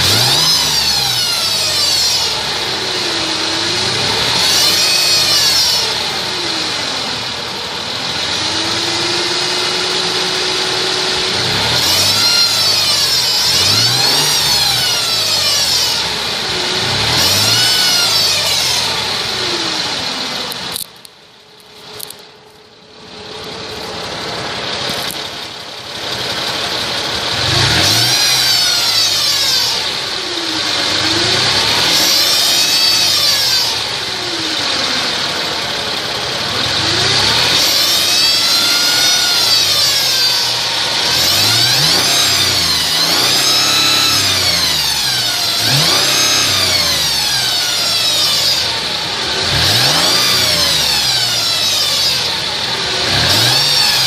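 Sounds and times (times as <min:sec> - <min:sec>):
car engine revving: 0:00.0 - 0:54.0
high-pitched whine: 0:00.0 - 0:54.0.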